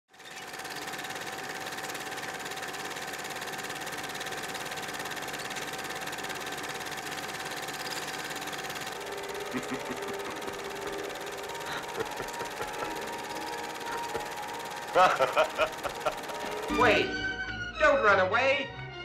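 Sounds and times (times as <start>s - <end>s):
film projector clattering: 0.1s - 17.0s.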